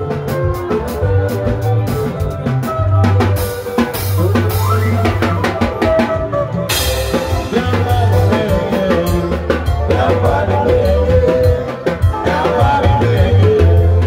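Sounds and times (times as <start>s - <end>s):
drum kit beat: 0.0s - 14.0s
live band music: 0.0s - 14.0s.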